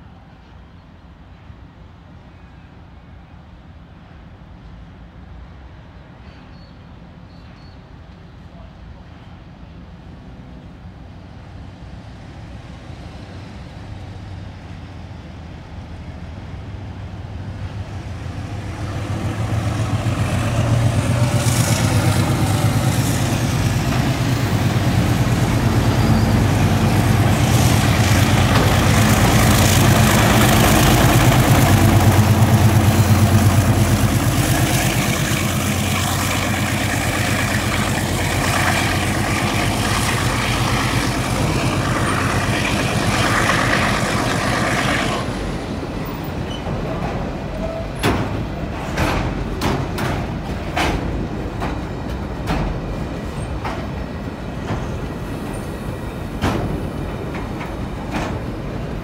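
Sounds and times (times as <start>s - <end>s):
diesel locomotive engine drone: 0.0s - 59.0s
train wagons passing: 4.1s - 59.0s.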